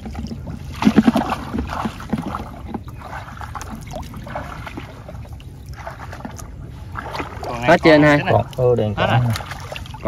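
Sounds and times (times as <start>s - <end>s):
shallow water sloshing and trickling: 0.0s - 10.0s
small water splashes: 0.0s - 10.0s.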